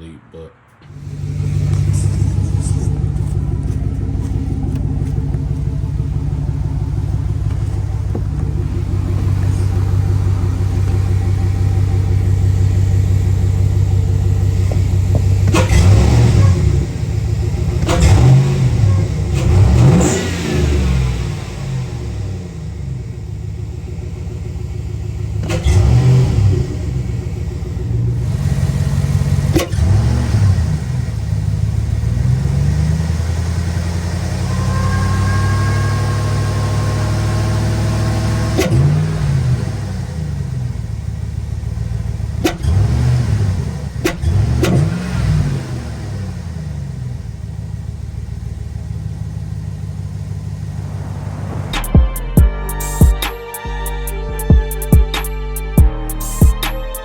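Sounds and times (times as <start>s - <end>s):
engine idling and revving: 0.8s - 57.0s.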